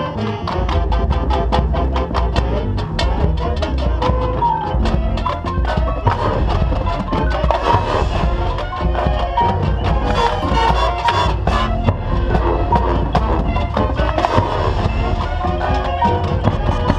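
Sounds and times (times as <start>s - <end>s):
rapid percussion strokes: 0.0s - 16.9s
sustained brass notes: 0.0s - 16.9s.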